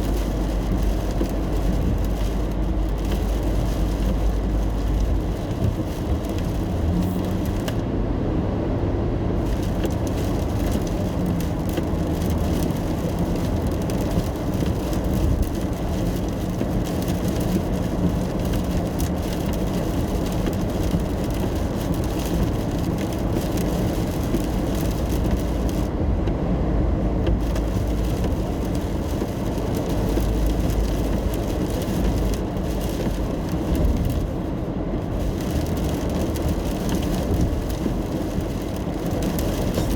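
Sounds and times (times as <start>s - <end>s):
rain: 0.0s - 7.9s, 8.8s - 39.9s
tyres hissing on wet pavement: 0.0s - 7.9s, 9.4s - 26.0s, 26.9s - 39.9s
road and engine rumble: 0.0s - 39.9s.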